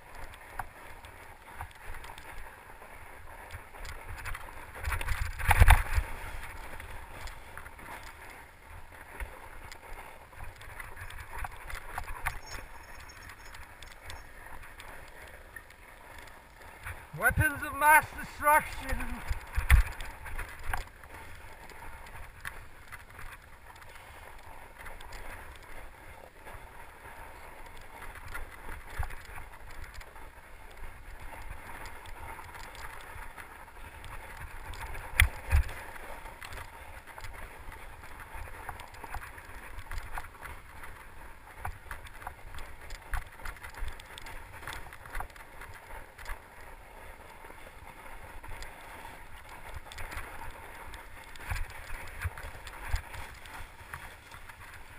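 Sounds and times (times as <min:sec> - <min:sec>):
bike rattles and clicks: 0:00.0 - 0:17.2, 0:19.0 - 0:54.9.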